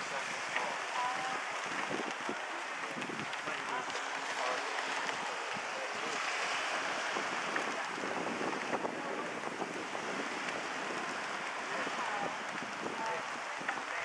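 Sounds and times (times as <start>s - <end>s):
sea water rushing: 0.0s - 14.0s
wind buffeting microphone: 0.0s - 14.0s
wind rushing: 1.4s - 14.0s.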